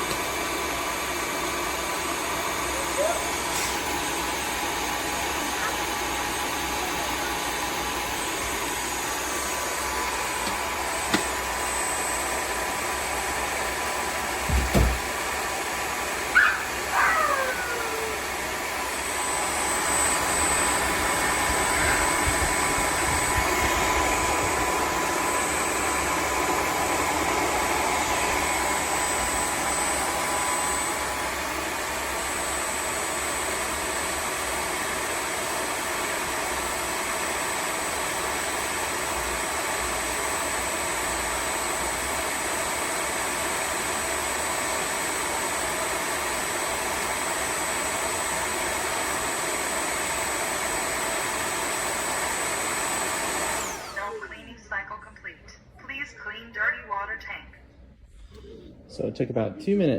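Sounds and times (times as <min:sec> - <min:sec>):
vacuum motor whirring: 0:00.0 - 0:54.3.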